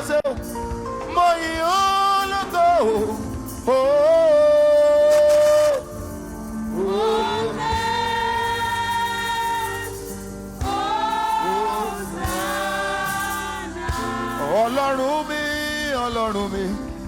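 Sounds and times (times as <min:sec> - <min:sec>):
instrumental backing: 0:00.0 - 0:17.0
voices singing held notes: 0:01.1 - 0:16.9.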